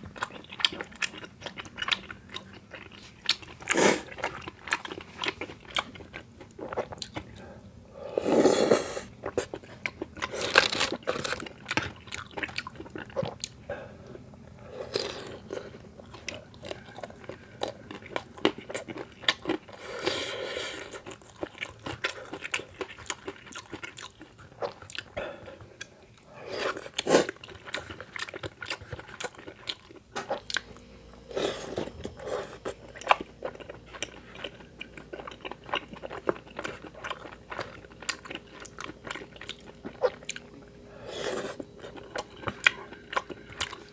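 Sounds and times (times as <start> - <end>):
chewing and crunching snacks: 0.0 - 7.5, 8.4 - 30.8, 31.4 - 43.9.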